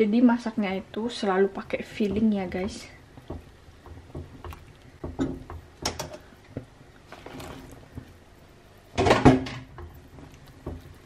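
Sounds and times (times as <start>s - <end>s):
soup simmering: 1.3s - 11.0s.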